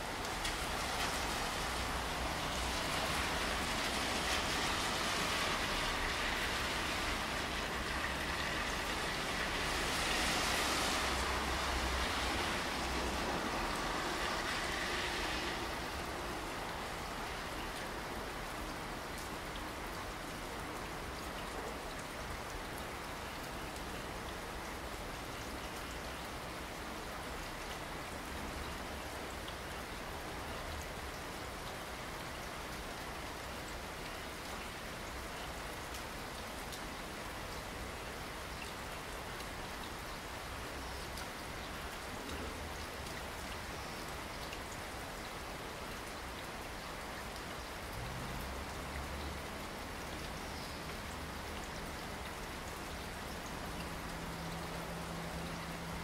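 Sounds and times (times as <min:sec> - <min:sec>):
steady rain splashing: 0:00.0 - 0:56.0.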